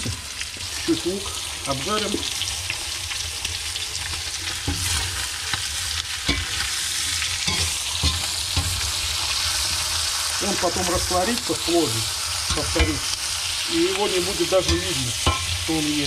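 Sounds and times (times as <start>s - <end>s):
onion and meat sizzling in oil: 0.0s - 16.0s.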